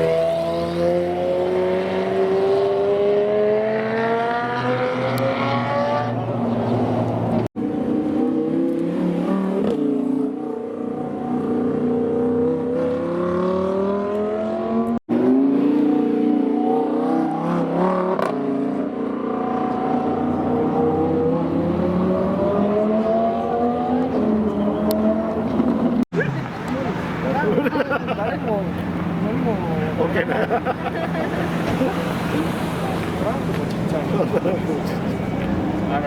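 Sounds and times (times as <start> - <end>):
supercar engines accelerating: 0.0 - 36.0.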